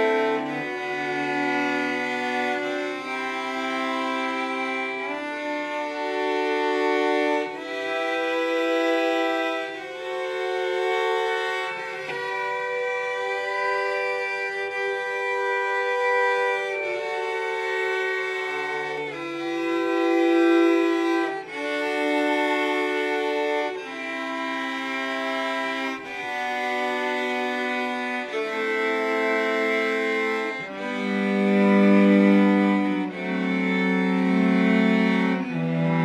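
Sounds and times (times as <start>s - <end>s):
cellos bowing slow chords: 0.0s - 36.0s.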